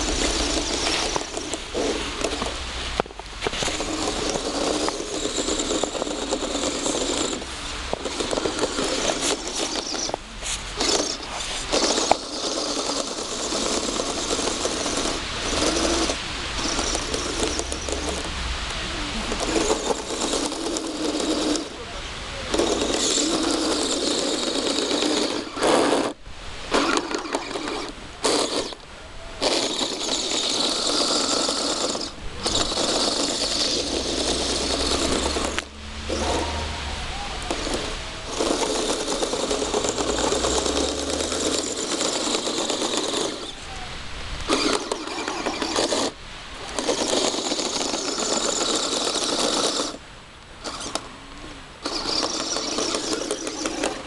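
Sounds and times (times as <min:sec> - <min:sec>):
toy electric motor and tracks whirring: 0:00.0 - 0:18.3, 0:19.2 - 0:21.8, 0:22.4 - 0:28.8, 0:29.4 - 0:50.0, 0:50.6 - 0:51.1, 0:51.8 - 0:54.0.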